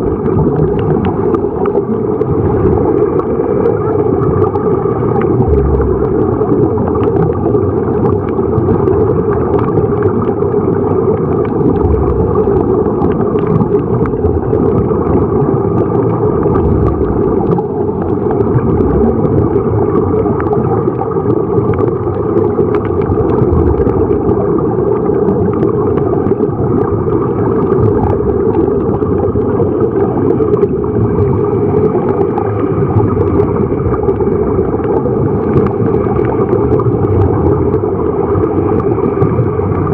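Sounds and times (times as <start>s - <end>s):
air bubbles gurgling: 0.0s - 39.9s
air streaming from diving helmets: 0.0s - 39.9s
faint crackles: 0.0s - 39.9s
muffled underwater rumble: 0.0s - 39.9s.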